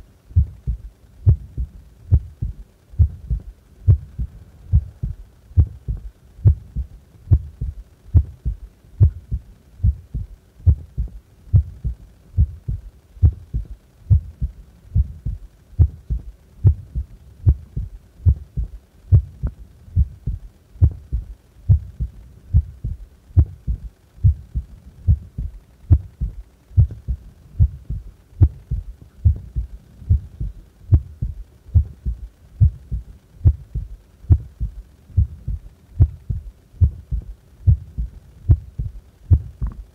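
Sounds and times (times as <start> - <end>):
heart beating: 0.3 - 39.8.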